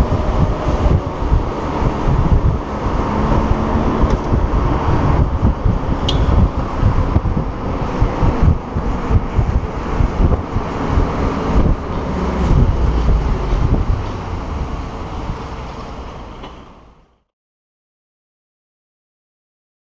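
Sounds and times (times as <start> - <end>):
wind buffeting microphone: 0.0 - 16.6
car engine running: 0.0 - 17.1.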